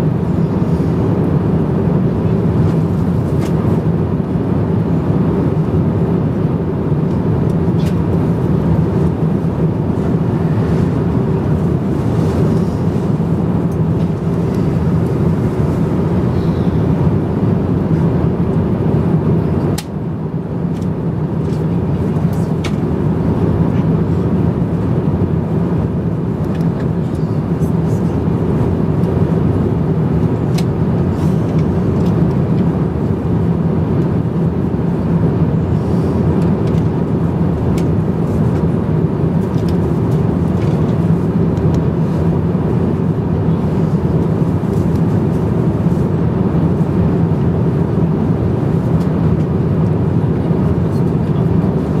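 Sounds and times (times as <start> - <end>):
airliner cabin noise: 0.0 - 52.0.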